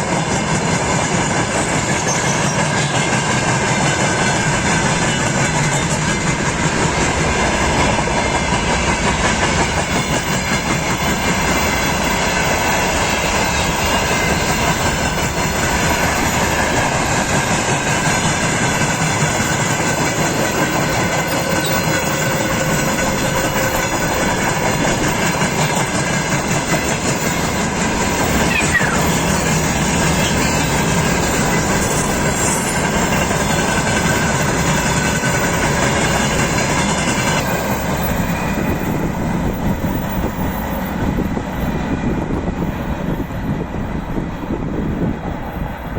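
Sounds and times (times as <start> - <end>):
train wheels clattering over rail joints: 0.0 - 45.1.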